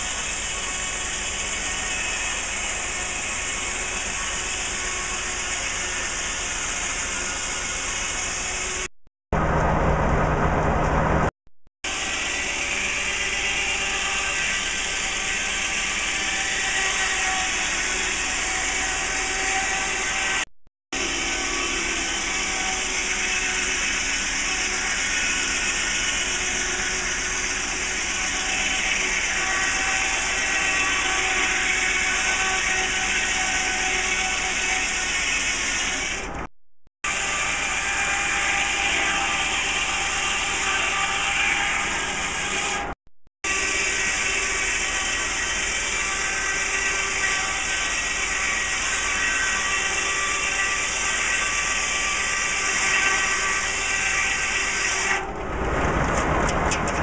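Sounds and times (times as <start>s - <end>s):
circular saw cutting log: 0.0s - 57.0s.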